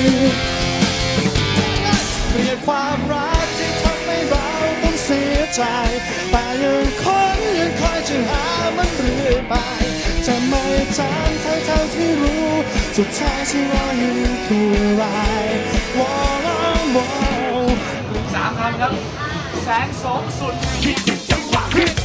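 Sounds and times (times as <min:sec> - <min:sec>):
person singing lead vocal: 0:00.0 - 0:00.8, 0:01.4 - 0:18.3, 0:20.2 - 0:22.0
drums: 0:00.0 - 0:22.0
electric guitars: 0:00.0 - 0:22.0.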